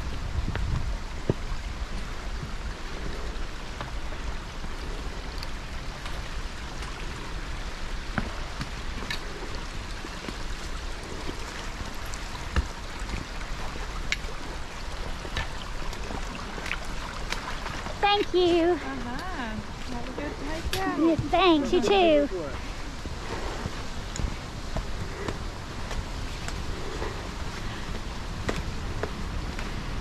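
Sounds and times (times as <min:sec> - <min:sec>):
creek running over rocks: 0:00.0 - 0:30.0.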